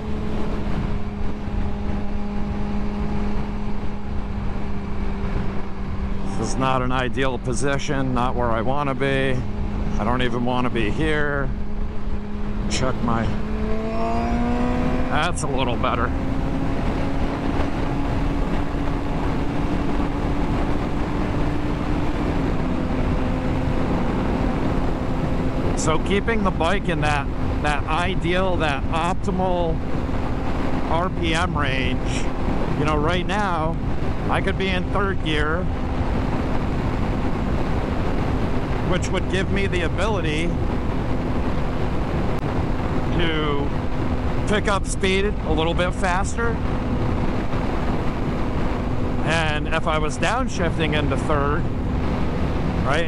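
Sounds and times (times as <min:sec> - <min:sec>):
motorcycle engine steady revs: 0:00.0 - 0:53.0
rushing wind and road noise: 0:00.0 - 0:53.0.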